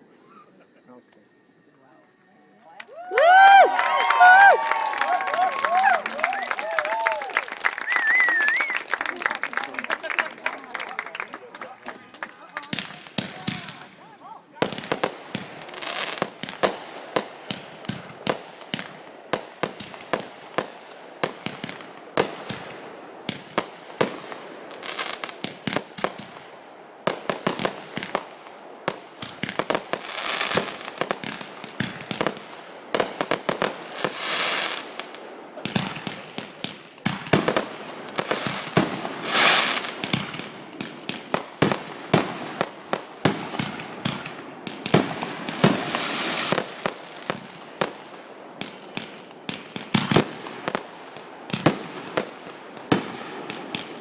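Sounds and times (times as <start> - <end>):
fireworks crackling hiss: 0.0 - 54.0
fireworks bangs and pops: 3.2 - 54.0.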